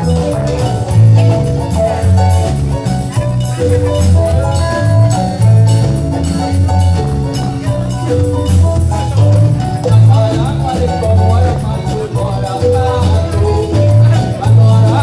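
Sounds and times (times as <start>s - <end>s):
bass line: 0.0s - 15.0s
bell-like gamelan-style melody: 0.0s - 15.0s
steady drum beat: 0.0s - 15.0s.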